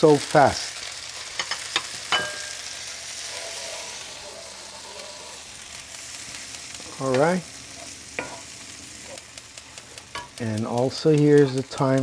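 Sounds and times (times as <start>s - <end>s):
butter sizzling in a frying pan: 0.0s - 12.0s.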